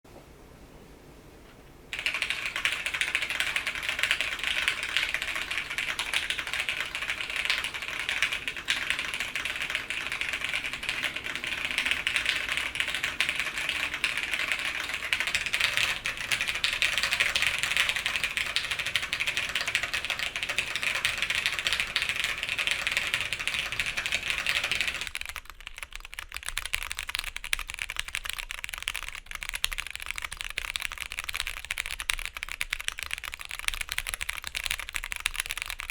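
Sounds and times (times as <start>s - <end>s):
mechanical keyboard typing: 1.9s - 35.9s.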